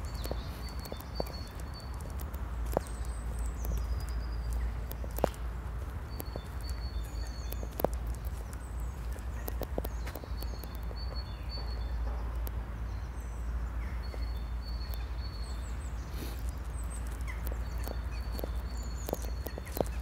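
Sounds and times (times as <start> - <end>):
small birds whistling and chirping: 0.0 - 5.2, 6.1 - 12.0, 14.0 - 20.0
footsteps on path: 0.0 - 12.4, 14.0 - 20.0.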